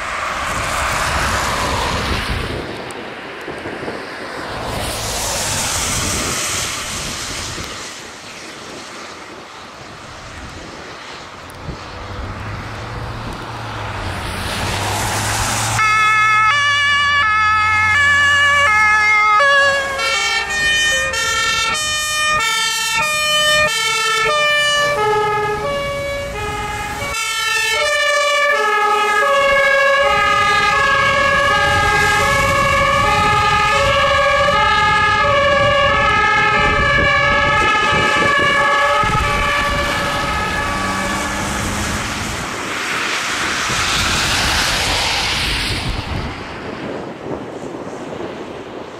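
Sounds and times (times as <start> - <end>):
two-tone sirens: 0.0 - 8.2, 9.3 - 48.2
vehicle passing on wet road: 0.0 - 48.9.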